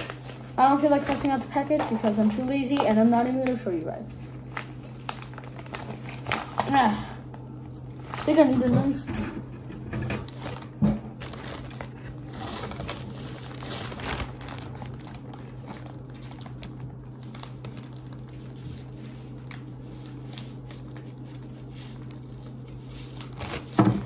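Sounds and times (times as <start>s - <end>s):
plastic bag crinkling: 0.0s - 9.1s, 9.7s - 24.0s
steady low hum: 0.0s - 24.0s.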